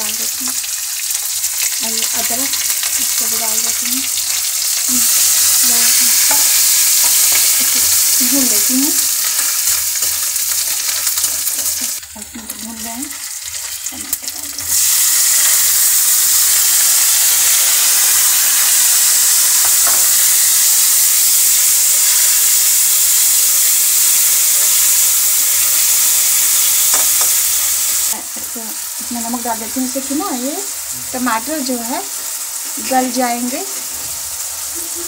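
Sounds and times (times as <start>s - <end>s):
tomatoes sizzling in hot oil: 0.0s - 35.0s.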